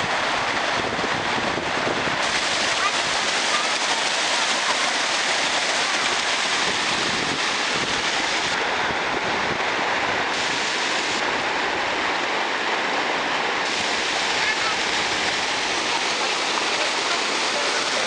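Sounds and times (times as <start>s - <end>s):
river rushing over rapids: 0.0s - 18.0s.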